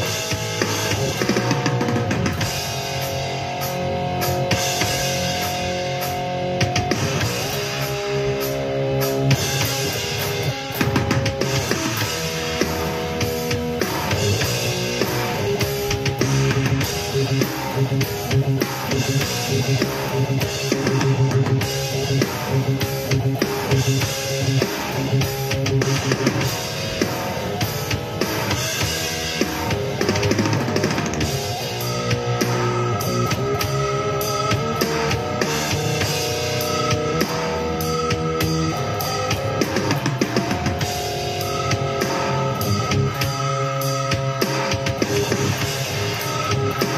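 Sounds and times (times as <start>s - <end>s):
heavy metal music: 0.0s - 46.9s.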